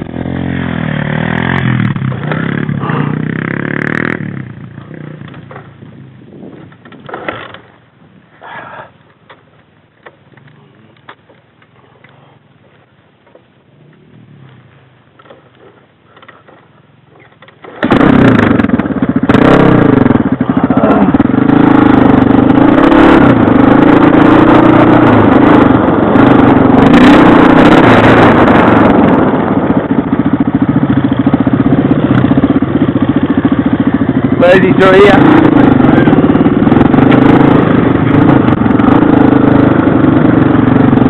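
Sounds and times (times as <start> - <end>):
motorbike engine revving: 0.0 - 12.9, 13.7 - 41.0.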